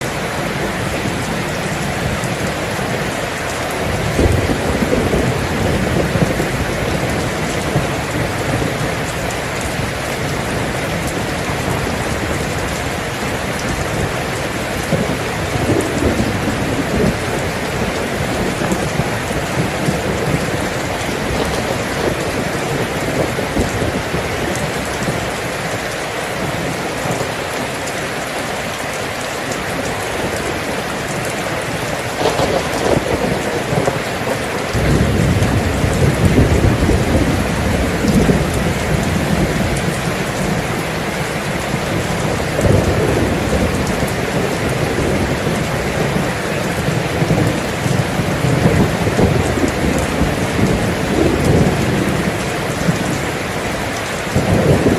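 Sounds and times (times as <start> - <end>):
dense rain: 0.0 - 54.9.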